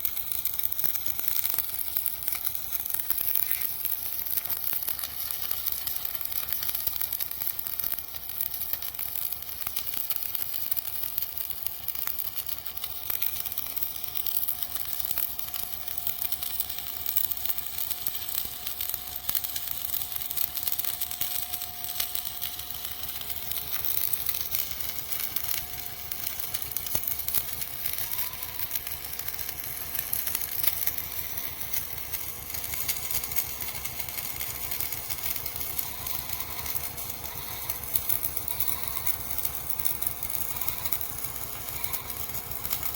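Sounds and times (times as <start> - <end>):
welding arc crackling: 0.0 - 42.9.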